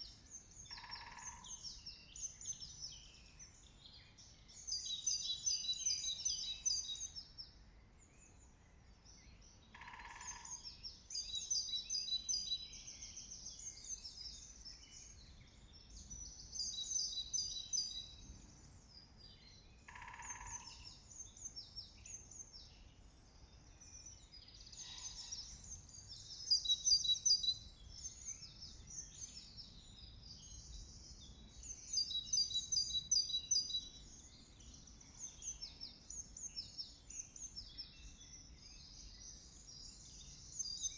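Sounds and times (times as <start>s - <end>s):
songbirds singing trilled phrases: 0.0s - 40.9s.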